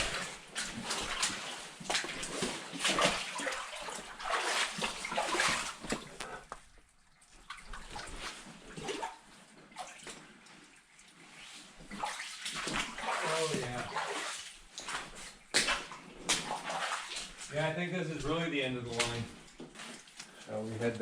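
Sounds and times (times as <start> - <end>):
boots wading through water: 0.0 - 21.0.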